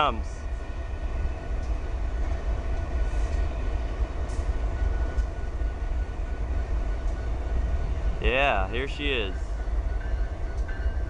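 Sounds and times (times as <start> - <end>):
freight train diesel rumble: 0.0 - 11.0.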